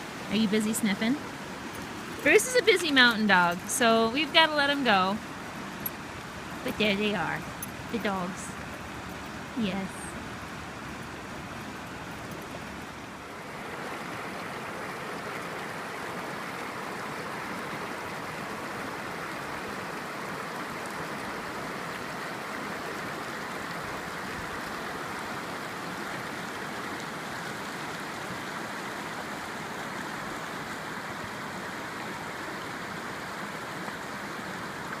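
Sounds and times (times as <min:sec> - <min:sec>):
river water rushing over rocks: 0:00.0 - 0:35.0.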